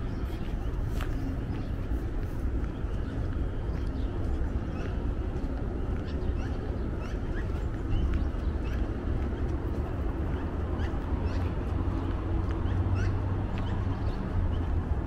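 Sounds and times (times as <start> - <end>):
low traffic rumble: 0.0 - 15.0
small birds chirping: 0.0 - 15.0.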